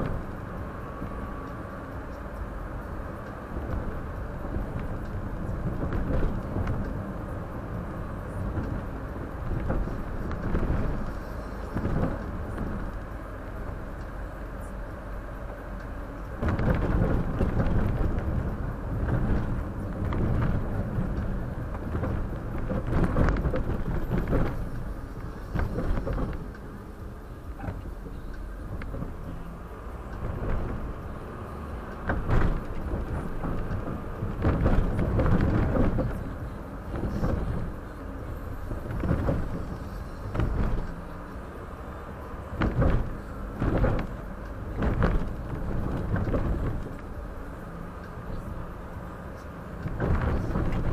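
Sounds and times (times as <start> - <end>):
road and engine rumble: 0.0 - 50.9.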